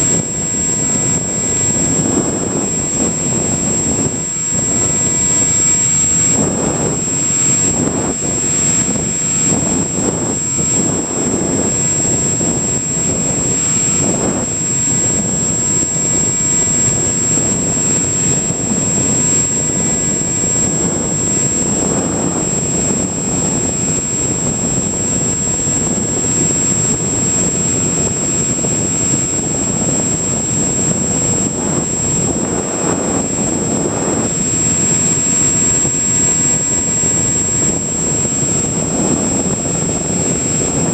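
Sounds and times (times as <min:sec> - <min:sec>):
high-pitched whine: 0:00.0 - 0:40.9
model plane motor: 0:00.0 - 0:40.9
wind rush: 0:00.0 - 0:40.9.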